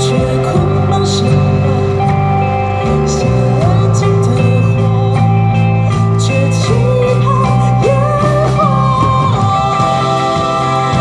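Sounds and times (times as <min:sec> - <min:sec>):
bass guitar: 0:00.0 - 0:11.0
drum kit with cymbal hits: 0:00.0 - 0:11.0
electric guitar: 0:00.0 - 0:11.0
person singing: 0:00.0 - 0:11.0.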